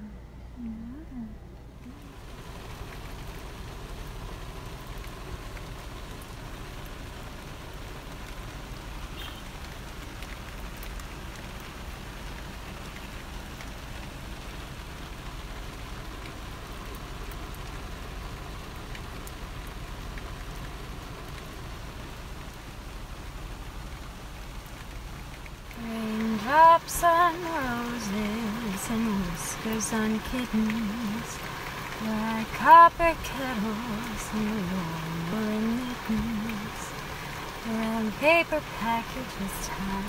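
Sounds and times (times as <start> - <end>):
rain on a car windshield: 1.6 - 40.0.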